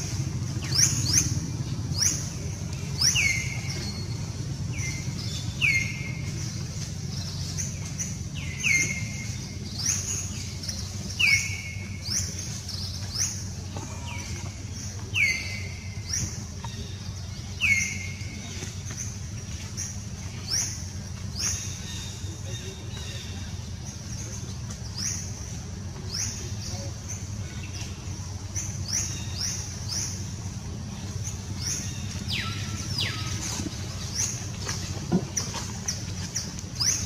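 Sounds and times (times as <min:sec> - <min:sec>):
bird calling: 0:00.0 - 0:37.0
steady low rumble: 0:00.0 - 0:37.0.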